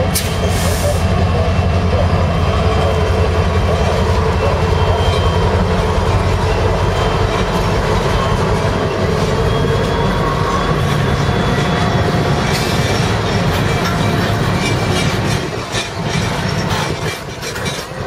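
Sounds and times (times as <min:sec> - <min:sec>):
freight cars rolling over rails: 0:00.0 - 0:18.0
locomotive engine rumble: 0:00.0 - 0:18.0.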